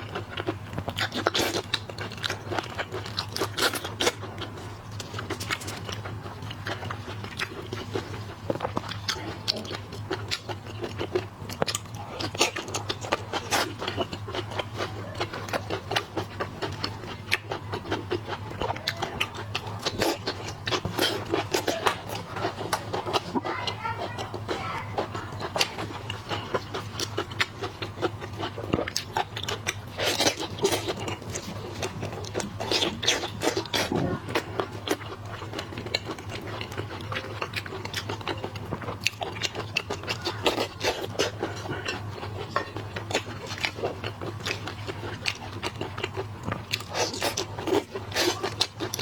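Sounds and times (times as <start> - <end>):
chewing: 0.0 - 49.0
steady low hum: 0.0 - 49.0.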